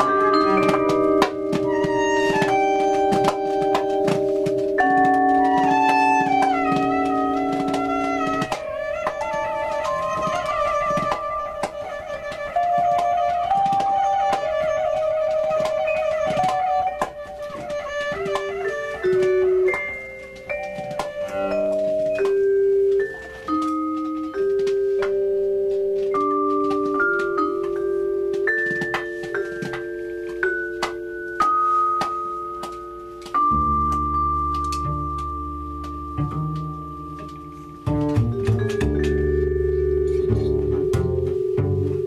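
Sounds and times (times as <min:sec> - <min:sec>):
mallet percussion: 0:00.0 - 0:42.0
plucked-string notes: 0:00.0 - 0:42.0
ringing vibraphone notes: 0:00.0 - 0:42.0.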